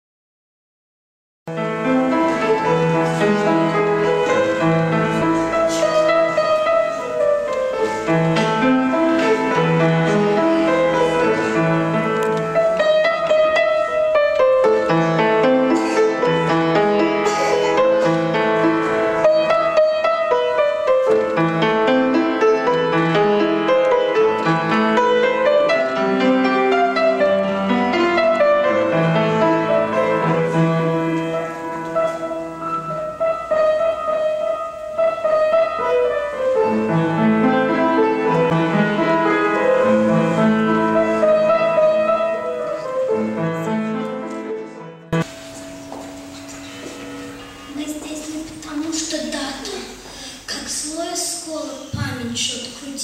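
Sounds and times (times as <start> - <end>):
solo upright piano piece: 1.5 - 50.4.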